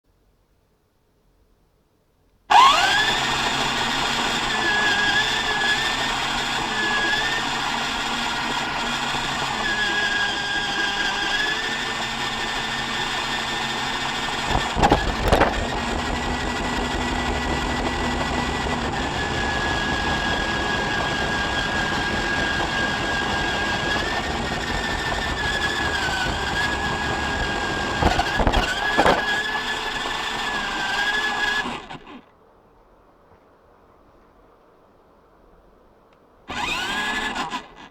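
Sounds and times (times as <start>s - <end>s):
model truck motor whine: 2.5s - 32.3s, 36.5s - 37.9s.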